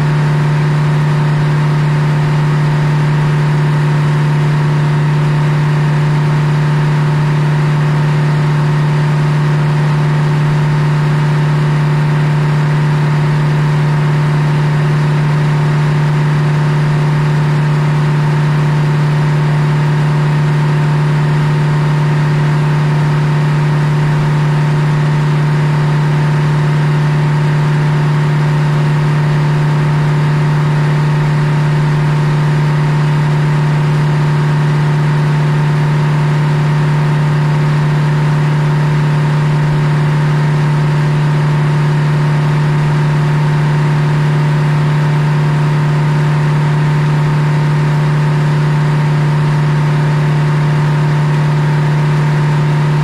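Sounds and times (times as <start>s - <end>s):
sawmill droning: 0.0s - 53.0s.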